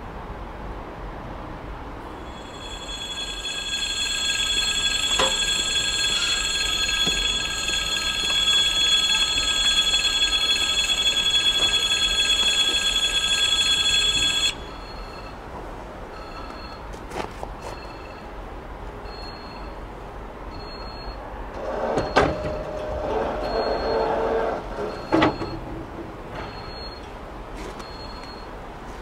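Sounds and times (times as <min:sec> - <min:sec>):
level crossing warning bell: 0:02.0 - 0:28.6.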